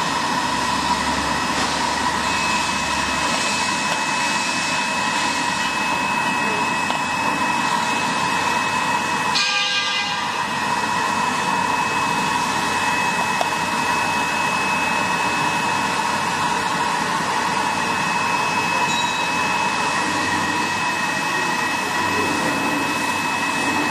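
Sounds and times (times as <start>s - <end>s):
labeling machine drone and whine: 0.0s - 23.9s.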